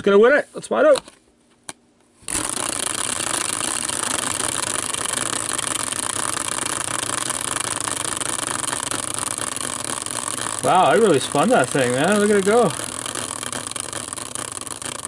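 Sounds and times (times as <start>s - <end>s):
prize wheel whirring: 2.3s - 15.0s.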